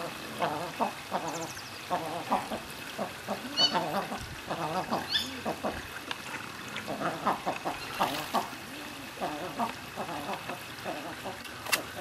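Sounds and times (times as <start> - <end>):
ducks cooing calls: 0.0 - 12.0.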